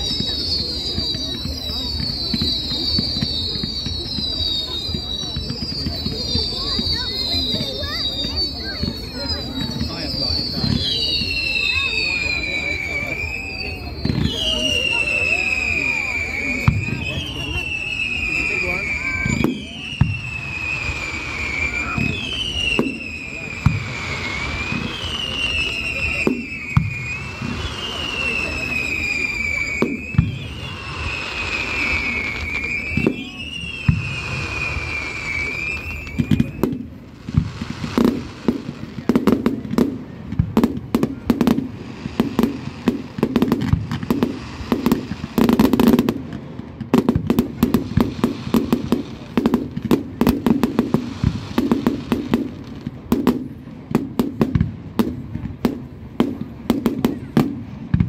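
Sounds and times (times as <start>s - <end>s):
firework whistling: 0.0s - 58.0s
fireworks bangs and crackles: 0.0s - 58.0s.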